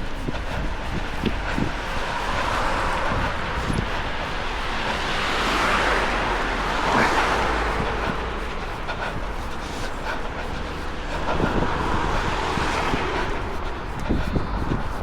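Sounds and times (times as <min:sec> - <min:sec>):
passing cars: 0:00.0 - 0:15.0
wind buffeting microphone: 0:00.0 - 0:15.0.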